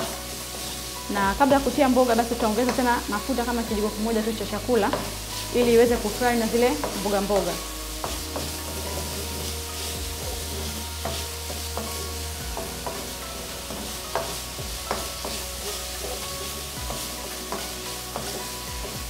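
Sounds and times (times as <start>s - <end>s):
chicken sizzling in oil: 0.0s - 19.0s
spatula scraping a wok: 0.0s - 19.0s.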